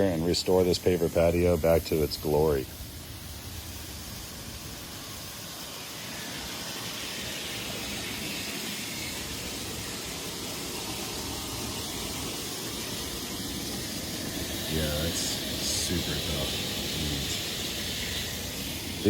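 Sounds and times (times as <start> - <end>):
spraying water hiss: 0.0 - 19.0.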